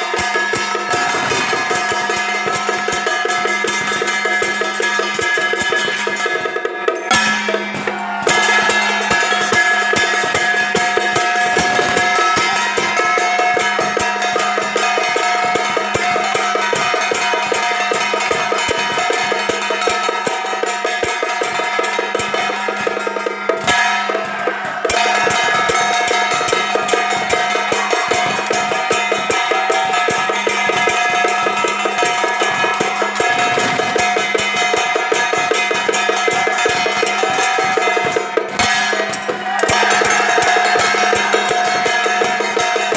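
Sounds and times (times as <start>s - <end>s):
big drum beaten fast: 0.0s - 42.9s
gongs and cymbals ringing: 0.0s - 42.9s.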